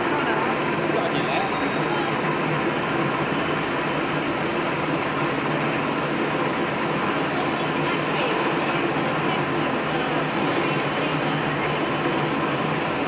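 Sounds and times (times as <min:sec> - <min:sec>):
machine drone with high whine: 0:00.0 - 0:13.0.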